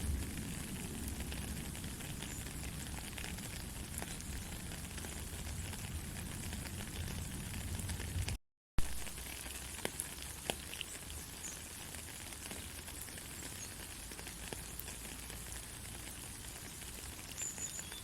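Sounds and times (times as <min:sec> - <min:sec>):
light rain hissing: 0:00.0 - 0:18.0.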